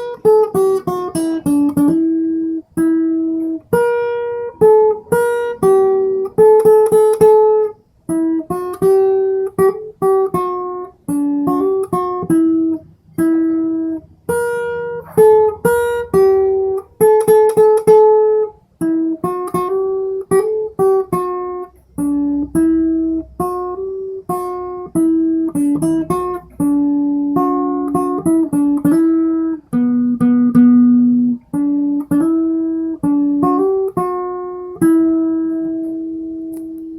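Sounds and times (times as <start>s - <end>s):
acoustic guitar plucked melody: 0.0s - 36.9s.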